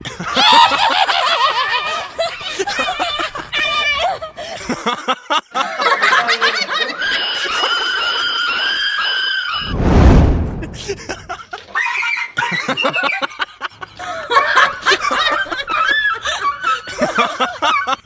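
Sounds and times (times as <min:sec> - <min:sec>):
people laughing and snickering: 0:00.0 - 0:08.9, 0:10.8 - 0:18.0.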